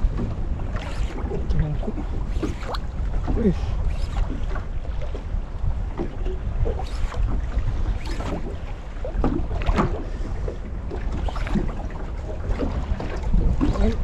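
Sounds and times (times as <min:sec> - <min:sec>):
open sea rumble: 0:00.0 - 0:14.0
wind buffeting microphone: 0:00.0 - 0:14.0.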